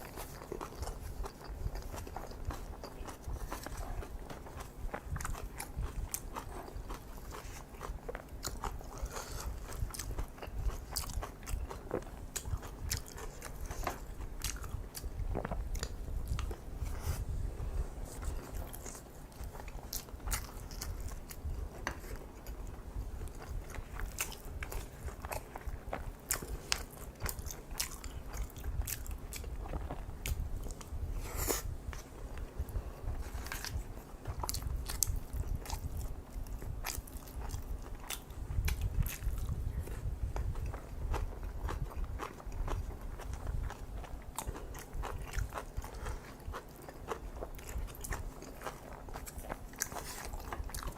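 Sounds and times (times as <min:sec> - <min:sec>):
chewing with wet crunches: 0:00.0 - 0:17.0, 0:18.1 - 0:50.9
low steady hum: 0:00.0 - 0:50.9.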